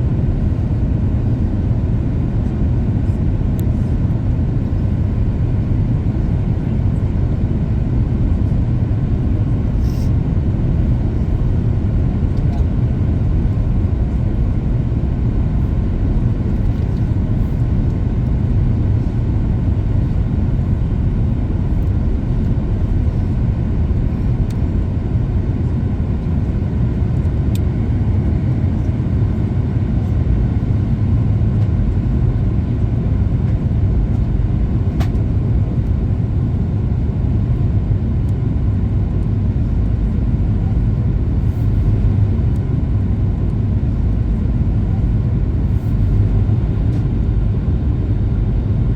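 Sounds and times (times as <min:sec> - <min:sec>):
airplane cabin roar: 0:00.0 - 0:48.9.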